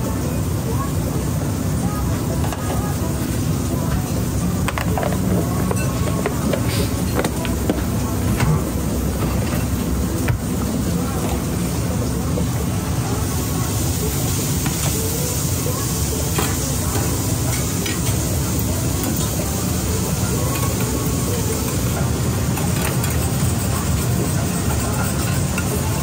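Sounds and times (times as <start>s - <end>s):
kitchen hum: 0.0s - 26.0s.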